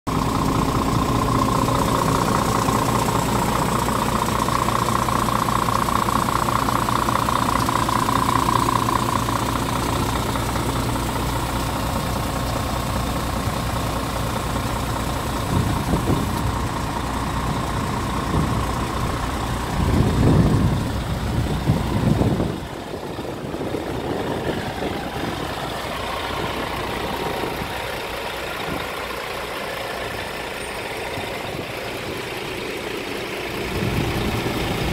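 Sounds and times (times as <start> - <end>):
truck diesel engine idling: 0.1 - 34.9.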